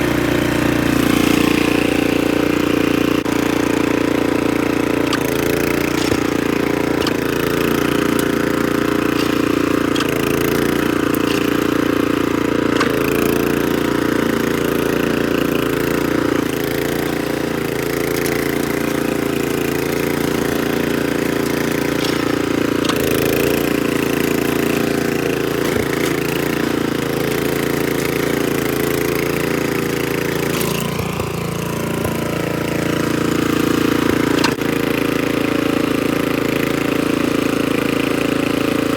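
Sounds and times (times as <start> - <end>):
rototiller engine running: 0.0 - 38.9.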